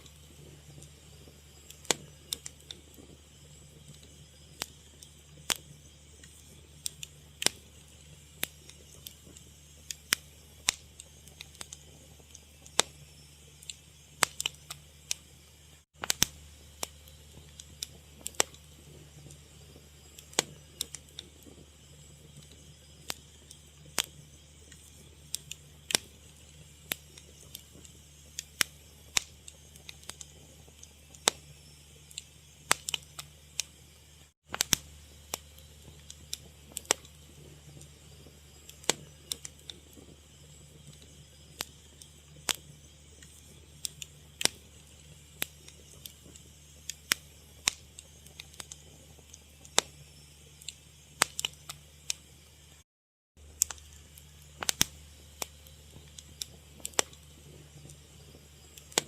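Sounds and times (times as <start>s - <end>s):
fire crackling and popping: 0.0s - 52.8s, 53.4s - 59.0s.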